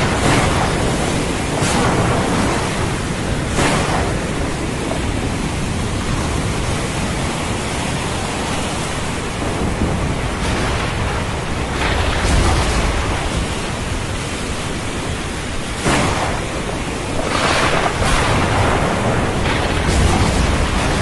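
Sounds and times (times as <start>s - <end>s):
low rumble of thunder: 0.0s - 21.0s
ocean surf: 0.0s - 21.0s
rain: 0.0s - 21.0s.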